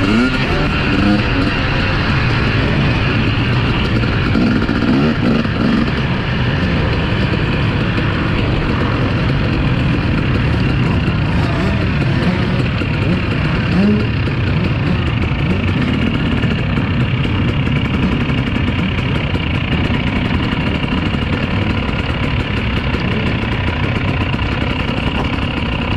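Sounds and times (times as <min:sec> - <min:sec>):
engine revving: 0:00.0 - 0:25.9
motocross engines droning: 0:00.0 - 0:25.9.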